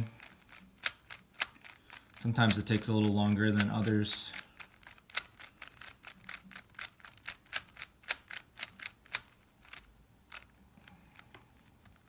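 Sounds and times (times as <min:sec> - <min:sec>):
puzzle cube plastic clicks: 0:00.0 - 0:12.0.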